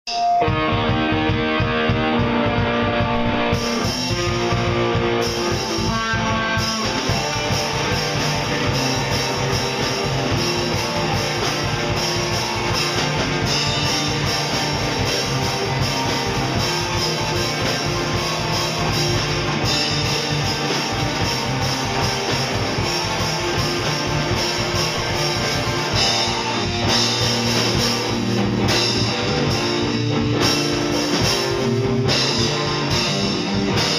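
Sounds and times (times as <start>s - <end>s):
drum kit and cymbals: 0.0s - 33.9s
electric guitars: 0.1s - 33.9s.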